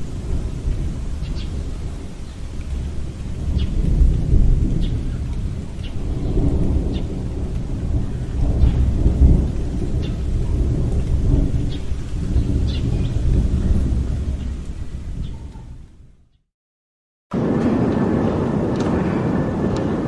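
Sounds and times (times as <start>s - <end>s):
roaring wind gusts: 0.0s - 16.3s, 17.3s - 20.0s.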